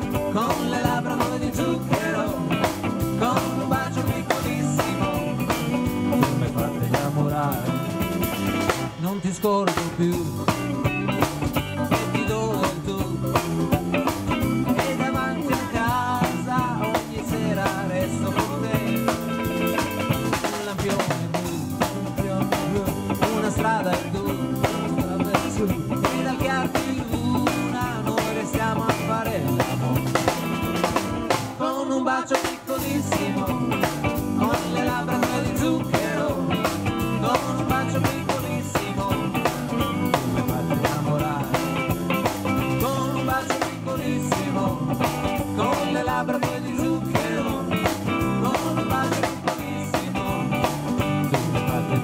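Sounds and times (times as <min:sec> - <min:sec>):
electric bass: 0:00.0 - 0:31.7, 0:32.5 - 0:52.0
drum kit: 0:00.0 - 0:52.0
electric guitars: 0:00.0 - 0:52.0.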